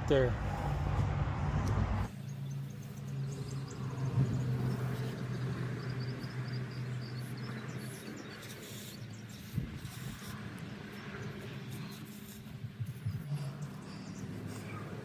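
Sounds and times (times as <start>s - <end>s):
low motor-like hum: 0.0s - 15.0s.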